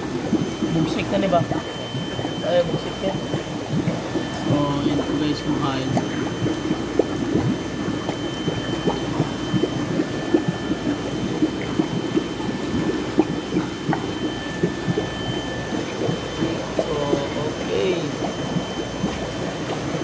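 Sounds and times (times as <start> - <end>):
water bubbling and splashing: 0.0 - 20.0.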